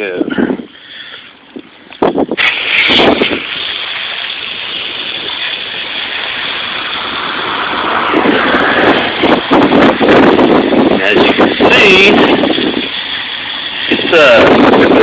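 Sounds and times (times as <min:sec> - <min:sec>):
water jet hissing on metal wheel: 0:02.4 - 0:15.0.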